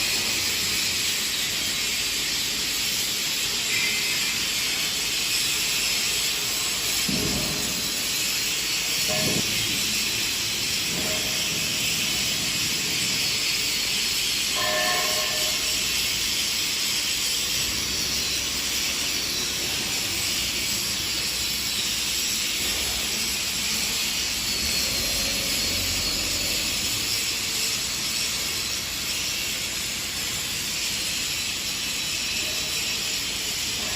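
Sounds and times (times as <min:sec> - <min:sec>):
steady hissing noise: 0:00.0 - 0:33.9.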